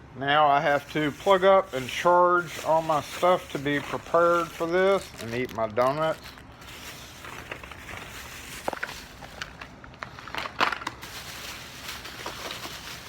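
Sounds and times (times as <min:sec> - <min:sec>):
rustling: 0:00.8 - 0:13.0.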